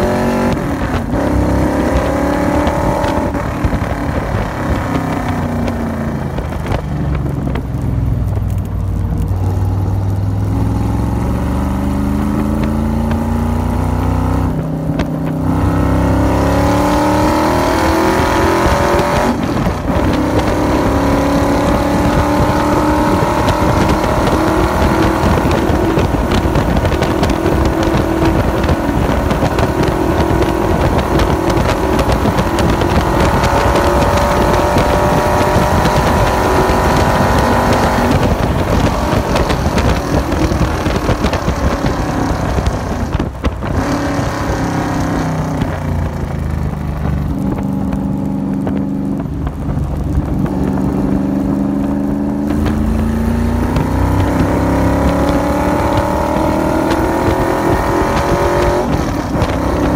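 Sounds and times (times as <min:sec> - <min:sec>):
car engine revving: 0:00.0 - 0:59.9
wind noise: 0:00.0 - 0:59.9.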